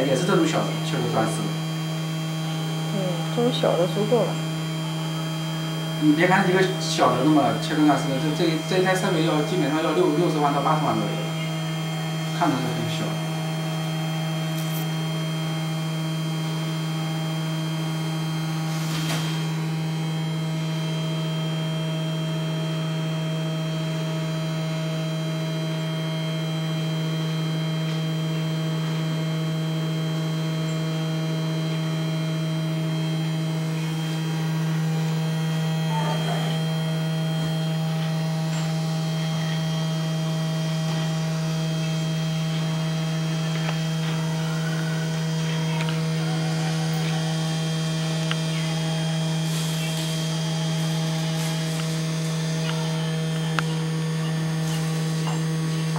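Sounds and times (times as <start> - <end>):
milling machine humming: 0.0 - 55.9.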